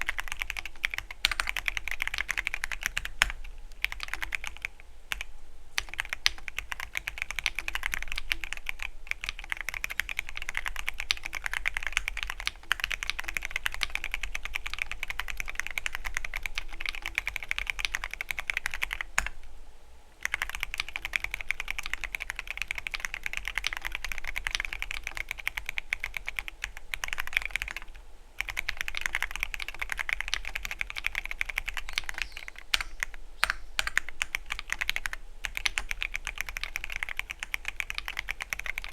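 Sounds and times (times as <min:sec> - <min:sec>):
mechanical keyboard typing: 0:00.0 - 0:19.4, 0:20.2 - 0:38.9.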